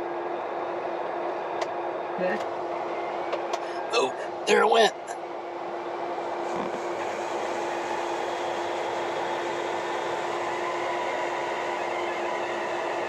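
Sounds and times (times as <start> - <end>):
tractor engine drone in cab: 0.0 - 13.0.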